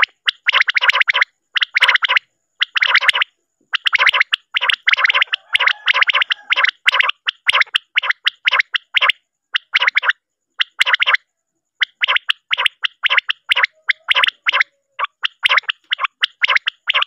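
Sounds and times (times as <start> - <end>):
quail calling: 0.0 - 11.2, 11.8 - 17.0.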